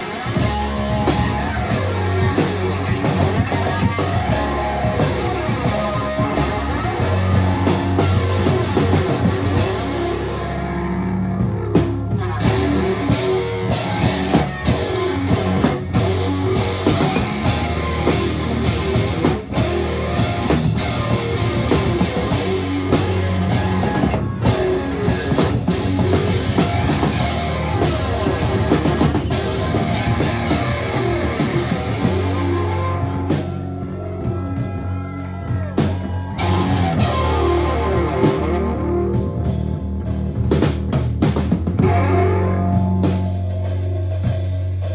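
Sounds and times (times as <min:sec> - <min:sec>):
bass guitar: 0:00.0 - 0:44.9
drum kit: 0:00.0 - 0:44.9
electric guitar: 0:00.0 - 0:44.9.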